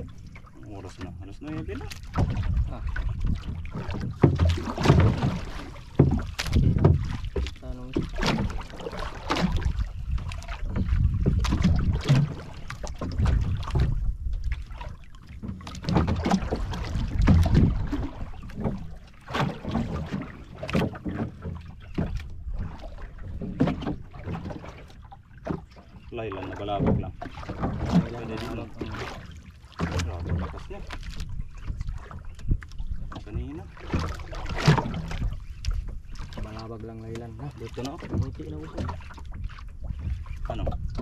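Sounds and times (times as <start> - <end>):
wind buffeting microphone: 0.0 - 15.1, 15.8 - 24.2, 29.9 - 36.9, 37.9 - 41.0
water slapping against boat hull: 0.0 - 41.0.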